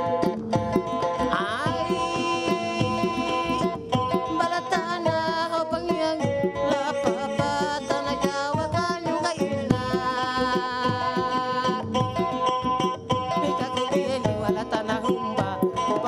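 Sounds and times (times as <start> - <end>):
hand drum beats: 0.0 - 16.0
plucked string instrument: 0.0 - 16.0.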